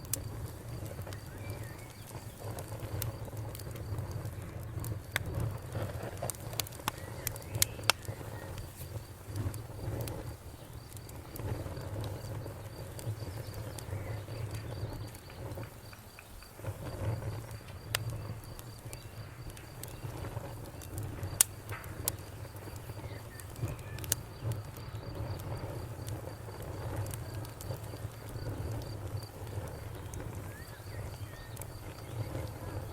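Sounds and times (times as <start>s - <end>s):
fire flame rumbling: 0.0s - 32.9s
wood crackling and popping: 0.0s - 32.9s.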